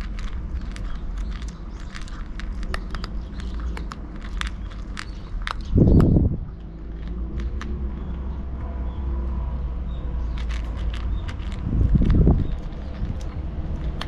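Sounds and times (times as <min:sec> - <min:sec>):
cat chewing wet food: 0:00.0 - 0:07.9, 0:10.4 - 0:14.0
low rumbles: 0:00.0 - 0:14.0.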